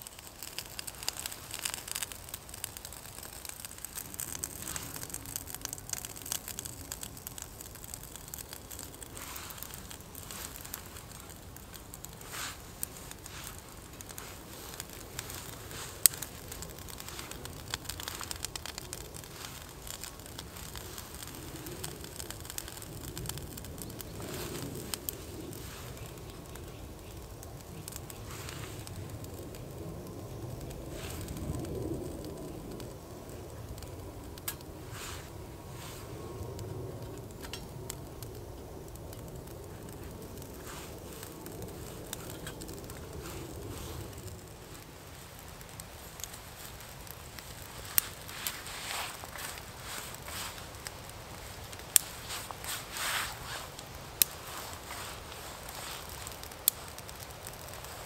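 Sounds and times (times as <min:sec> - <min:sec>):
twig fire crackling: 0:00.0 - 0:58.0.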